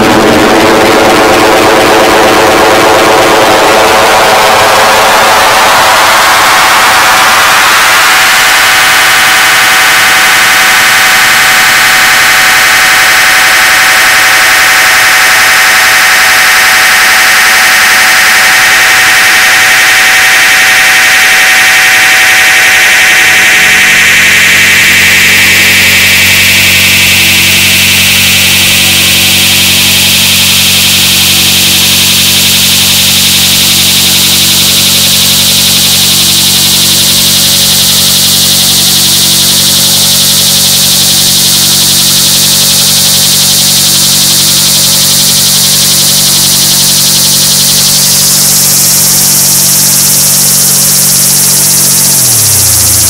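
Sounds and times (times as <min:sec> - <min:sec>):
synthesizer noise drone: 0:00.0 - 0:53.0.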